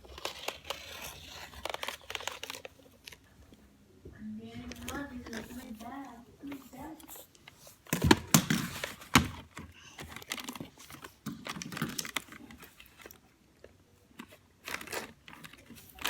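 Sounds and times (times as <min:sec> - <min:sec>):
cardboard crinkling and rustling: 0:00.0 - 0:03.4, 0:04.6 - 0:16.0.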